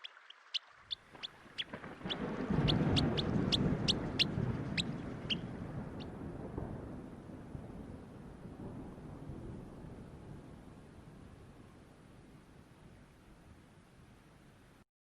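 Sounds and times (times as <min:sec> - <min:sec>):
low rumbling noise: 0:00.9 - 0:14.7.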